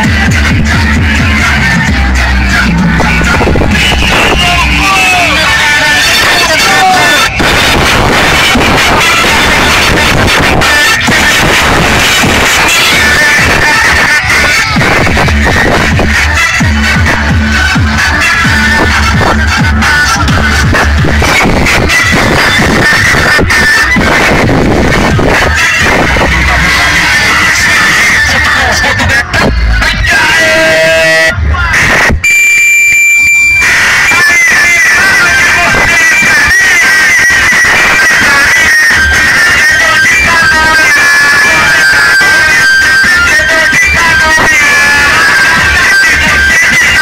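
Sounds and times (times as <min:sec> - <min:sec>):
electronic music with heavy bass: 0:00.0 - 0:47.0.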